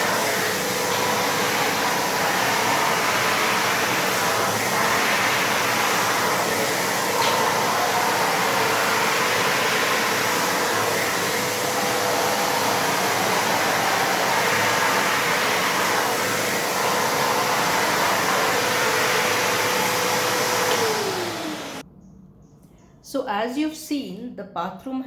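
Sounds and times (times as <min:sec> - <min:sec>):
wet vacuum cleaner whining: 0:00.0 - 0:21.8.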